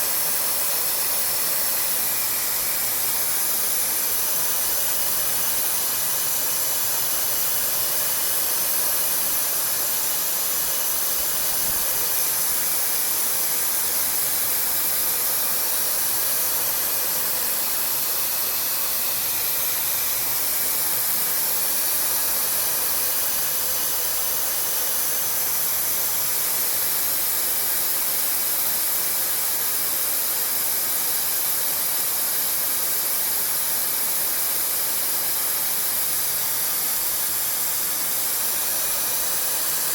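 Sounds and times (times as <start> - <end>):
cnc machine hissing and whining: 0.0 - 39.9.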